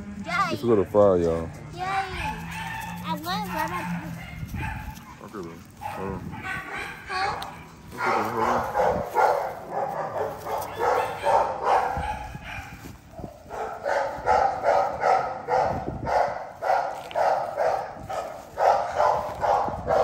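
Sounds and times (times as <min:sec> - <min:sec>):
dog barking: 0:01.9 - 0:20.0.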